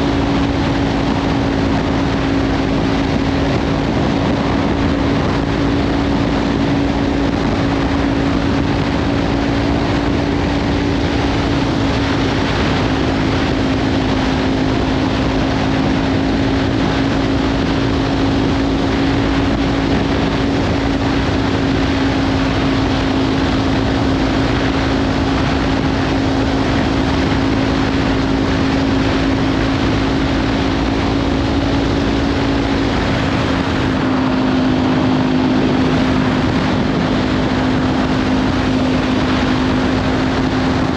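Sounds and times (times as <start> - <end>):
motorcycle engine cruising: 0.0 - 40.9
wind noise on microphone: 0.0 - 40.9.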